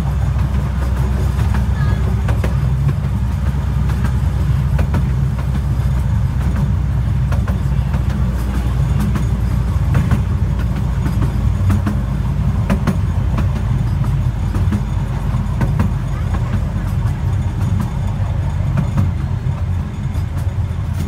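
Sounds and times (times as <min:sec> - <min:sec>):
railway carriage rumbling on track: 0:00.0 - 0:21.0
wheels clicking on rails: 0:00.0 - 0:21.0.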